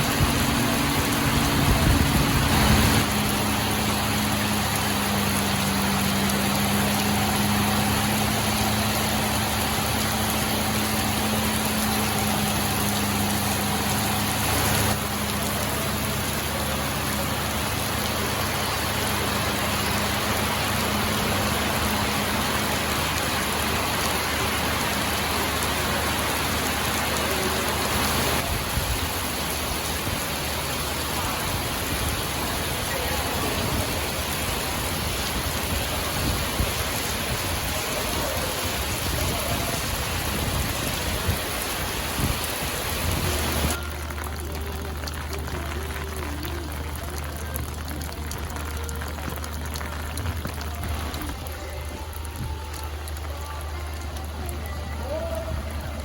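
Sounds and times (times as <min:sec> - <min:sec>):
heavy rain: 0:00.0 - 0:56.0
low engine hum: 0:00.0 - 0:56.0.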